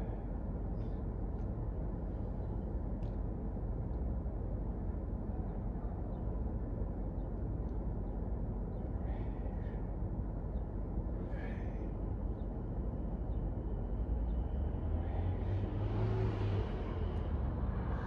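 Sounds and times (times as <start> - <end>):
low background rumble: 0.0 - 15.7.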